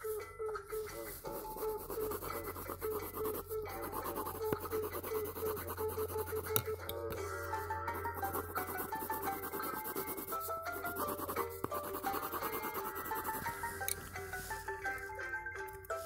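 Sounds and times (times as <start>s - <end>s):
background music: 0.0s - 16.0s
colored pencil scratching on paper: 0.8s - 15.0s.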